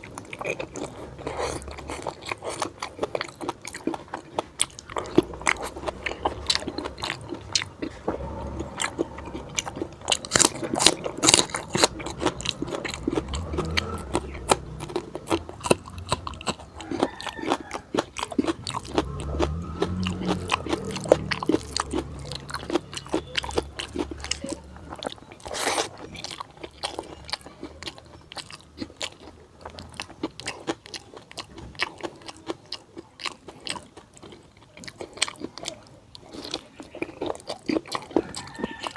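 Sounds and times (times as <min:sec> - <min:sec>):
close chewing: 0:00.0 - 0:38.9
loud crunching bite: 0:00.0 - 0:38.9.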